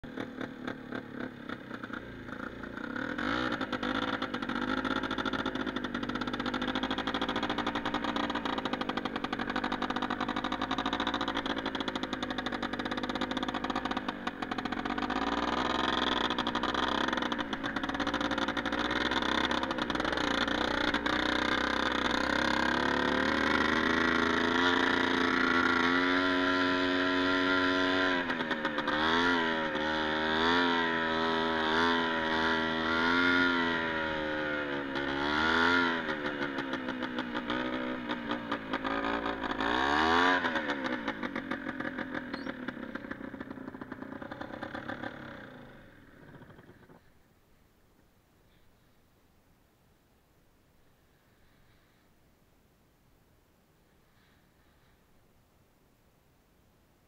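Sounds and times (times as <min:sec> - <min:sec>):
quad bike engine running: 0:00.0 - 0:47.3, 0:51.2 - 0:52.0, 0:54.0 - 0:55.0.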